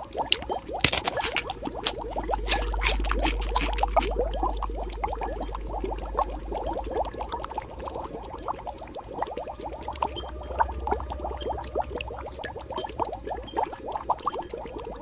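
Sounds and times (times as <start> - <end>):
low steady rumble: 0.0 - 15.0
thick liquid bubbling: 0.0 - 15.0.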